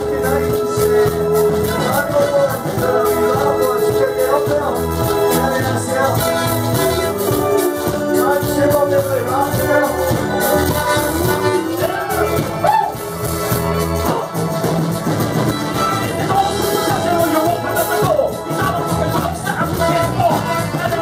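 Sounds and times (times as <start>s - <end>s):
live band music with brass: 0.0s - 21.0s
person singing: 0.0s - 21.0s.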